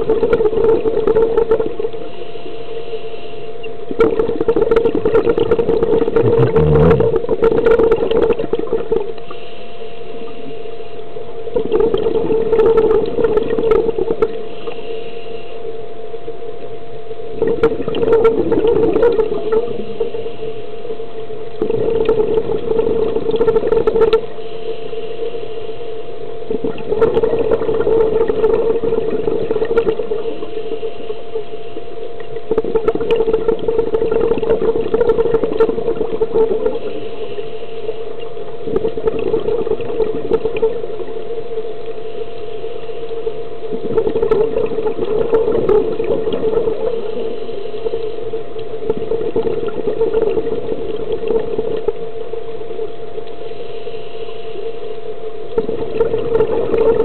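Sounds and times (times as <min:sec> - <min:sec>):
regulator exhaled bubbles: 0:00.0 - 0:10.7, 0:11.5 - 0:15.2, 0:17.3 - 0:20.8, 0:21.5 - 0:25.5, 0:26.4 - 0:52.1, 0:53.2 - 0:57.0
steady hum: 0:00.0 - 0:57.0.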